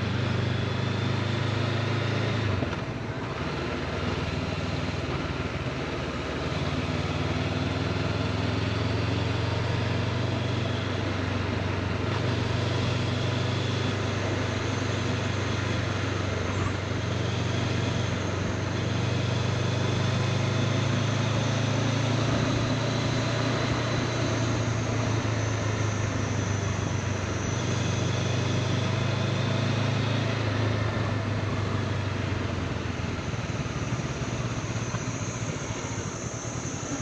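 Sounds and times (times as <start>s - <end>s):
motorcycle engine running: 0.0s - 37.0s
wind and road noise: 0.0s - 37.0s.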